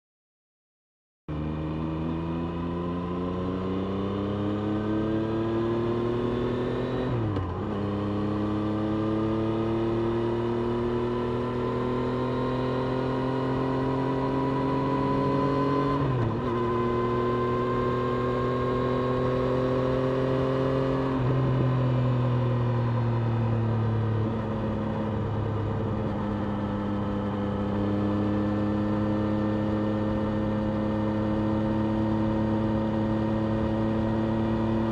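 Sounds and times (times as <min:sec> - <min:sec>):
motorcycle engine accelerating: 0:01.3 - 0:34.9.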